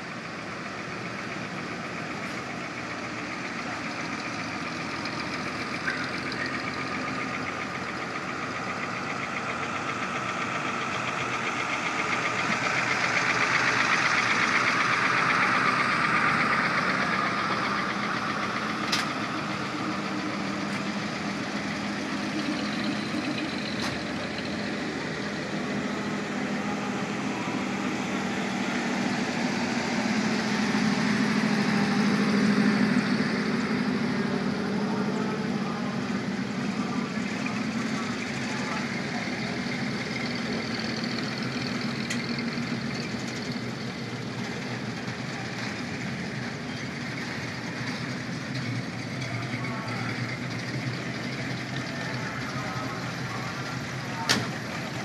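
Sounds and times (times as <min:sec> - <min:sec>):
trucks driving slowly past: 0:00.0 - 0:55.0.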